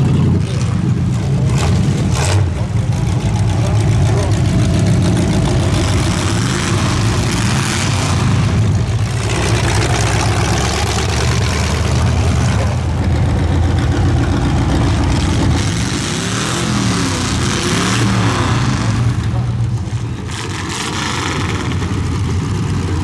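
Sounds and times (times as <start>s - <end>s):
car engines idling and revving: 0.0s - 23.0s.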